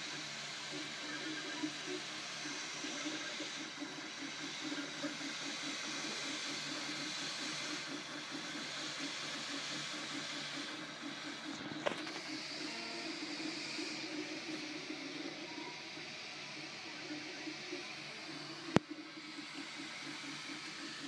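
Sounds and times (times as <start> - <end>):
stepper motors whirring: 0.0 - 21.0.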